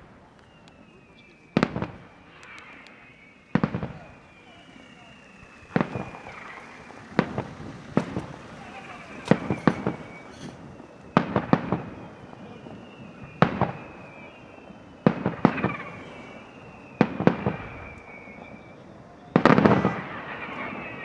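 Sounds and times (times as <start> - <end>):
fireworks bangs: 0.0 - 21.0
fireworks whistling downward: 0.0 - 21.0.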